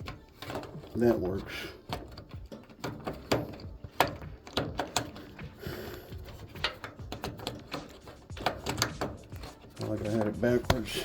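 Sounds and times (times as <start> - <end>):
plastic parts clicking: 0.0 - 11.0
scraping rustle: 0.0 - 11.0.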